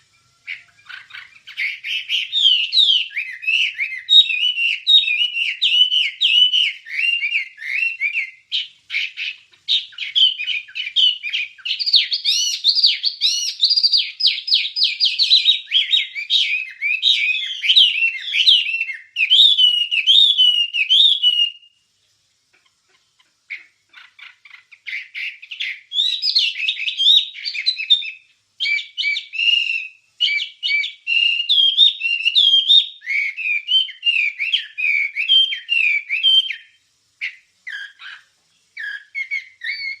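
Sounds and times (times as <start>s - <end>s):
songbird chirps and trills: 0.0s - 40.0s.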